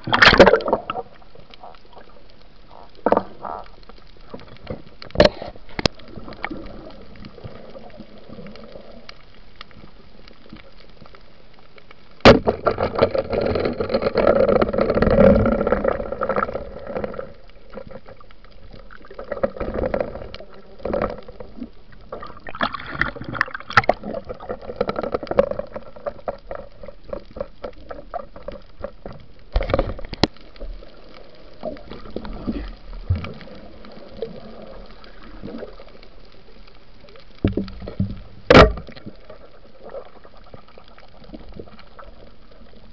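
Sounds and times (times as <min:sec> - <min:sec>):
underwater bubbling and crackling: 0:00.0 - 0:42.9.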